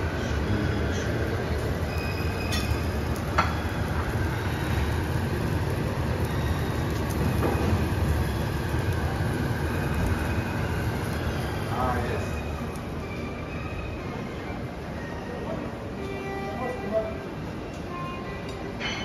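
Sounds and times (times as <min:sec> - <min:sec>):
busy kitchen rumble: 0:00.0 - 0:19.0.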